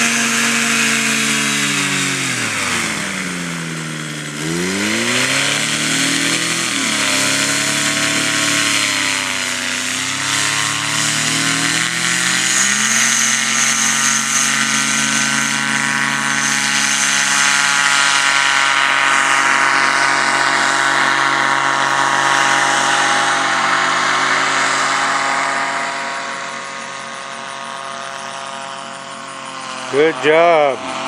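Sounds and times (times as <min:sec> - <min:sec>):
engine and propeller running: 0:00.0 - 0:31.0.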